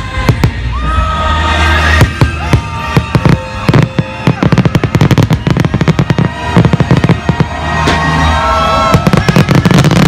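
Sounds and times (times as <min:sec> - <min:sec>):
fireworks bangs and crackles: 0:00.0 - 0:10.0
music: 0:00.0 - 0:10.0.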